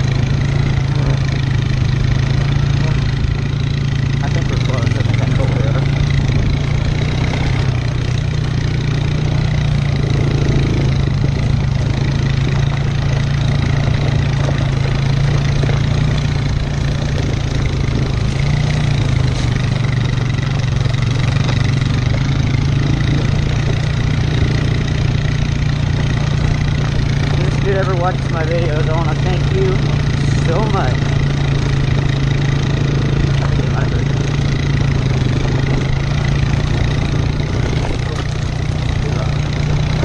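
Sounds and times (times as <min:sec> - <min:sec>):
atv engine running under load: 0:00.0 - 0:40.0.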